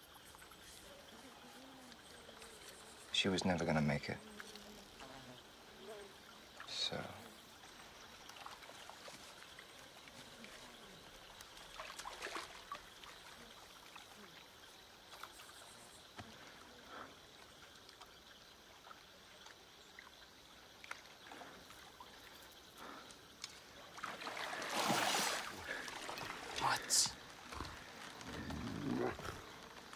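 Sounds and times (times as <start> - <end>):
faint trickle of water: 0.2 - 29.9.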